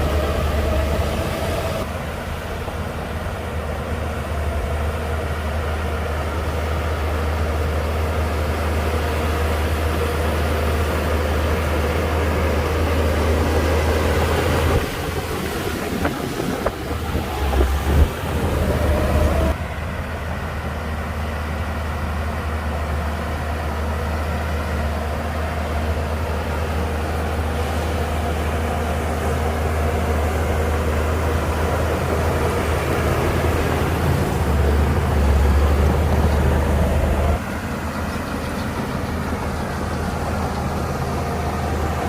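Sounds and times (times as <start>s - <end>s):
bulldozer diesel engine drone: 0.0s - 42.0s.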